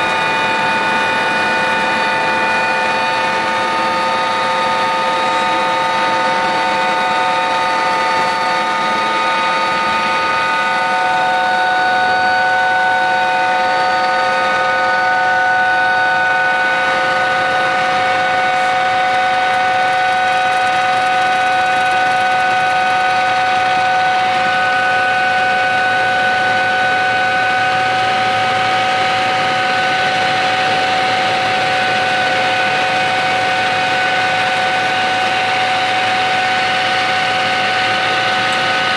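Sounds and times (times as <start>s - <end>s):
helicopter turbine whine: 0.0s - 38.9s
rushing noise in helicopter cabin: 0.0s - 38.9s.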